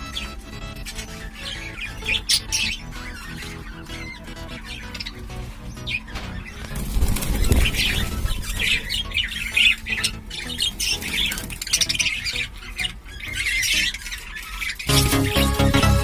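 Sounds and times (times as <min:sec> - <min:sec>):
budgerigars chattering and squawking: 0:00.0 - 0:16.0.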